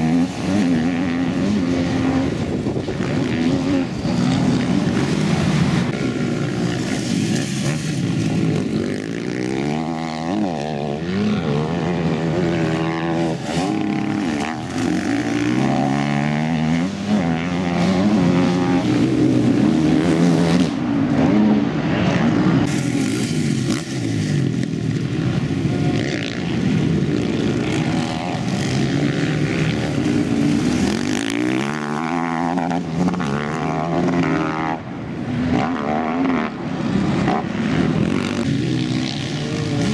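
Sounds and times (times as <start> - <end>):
motocross engines revving: 0.0 - 39.9.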